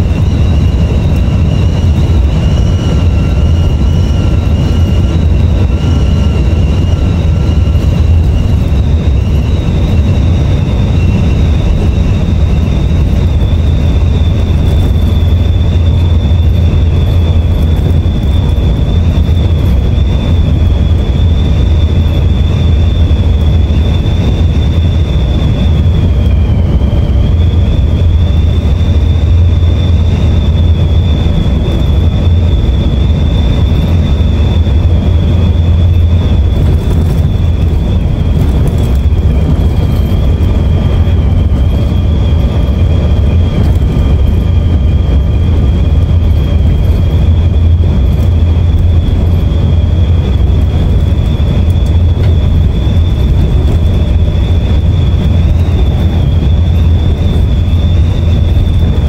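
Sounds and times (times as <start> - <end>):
bus engine and road drone: 0.0 - 59.0
thin high whine: 0.0 - 59.0.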